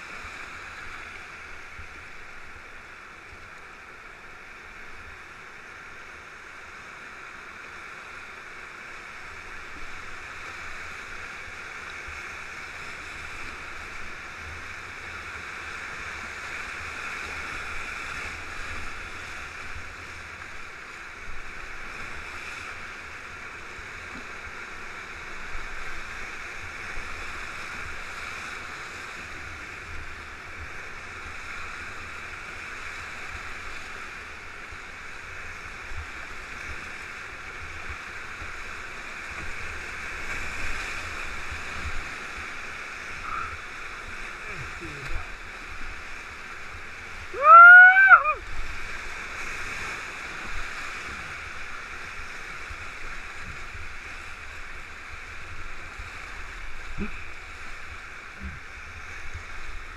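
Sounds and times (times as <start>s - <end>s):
whitewater rapids rushing: 0.0s - 59.9s
water splashes: 9.1s - 59.9s.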